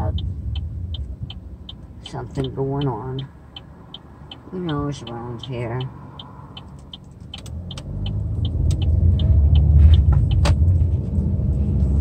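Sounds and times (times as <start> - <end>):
turn signal clicking: 0.0 - 11.1
car engine and road rumble: 0.0 - 12.0.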